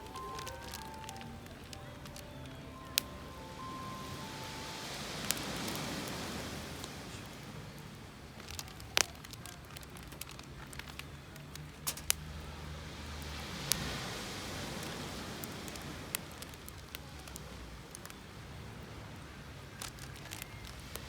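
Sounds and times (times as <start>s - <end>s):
wood campfire crackling: 0.0s - 21.0s.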